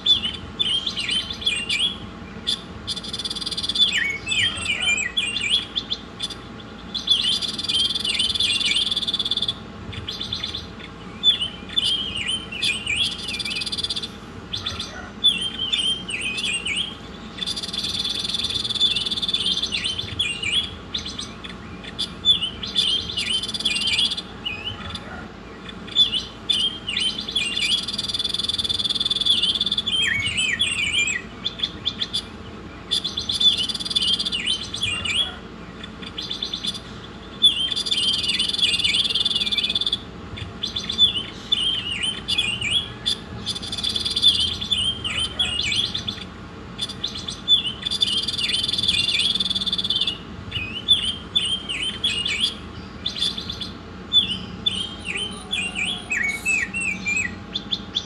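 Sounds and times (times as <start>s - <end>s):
songbird singing trills and chirps: 0.0s - 58.0s.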